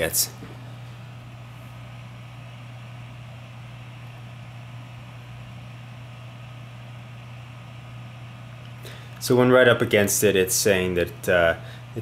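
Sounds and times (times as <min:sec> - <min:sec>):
laptop fan rushing air: 0:00.0 - 0:12.0.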